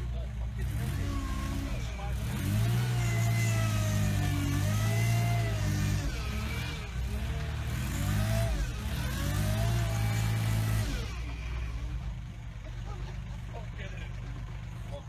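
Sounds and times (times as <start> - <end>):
dumper engine revving: 0.0 - 15.0.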